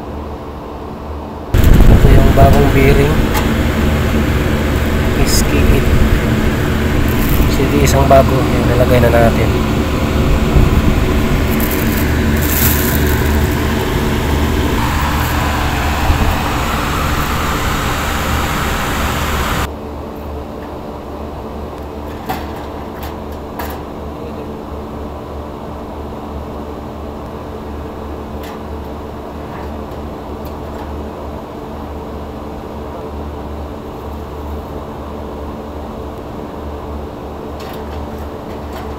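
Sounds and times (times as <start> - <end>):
hvac machinery droning: 0.0 - 38.9.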